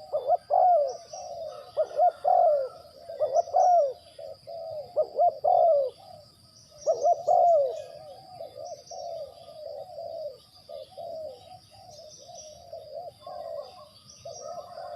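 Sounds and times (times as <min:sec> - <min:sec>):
dove cooing: 0:00.0 - 0:14.9
faint small-bird chirps: 0:00.0 - 0:14.9.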